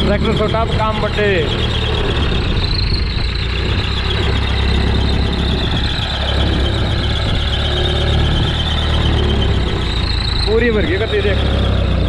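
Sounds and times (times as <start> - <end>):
high-pitched squeal: 0.0 - 12.0
tractor diesel engine under load: 0.0 - 12.0.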